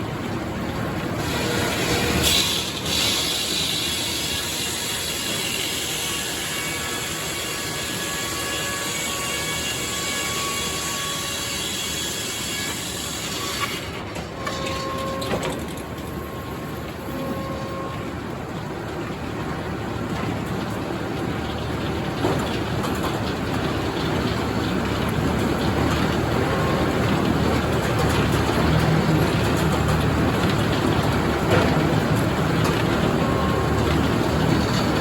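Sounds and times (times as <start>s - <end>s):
sawmill running: 0.1s - 35.0s.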